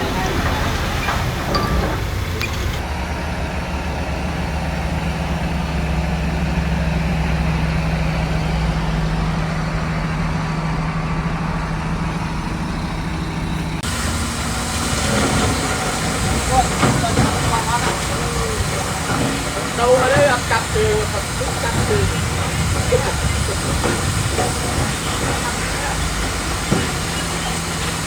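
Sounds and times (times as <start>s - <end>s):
heavy diesel engine droning: 0.0s - 28.0s.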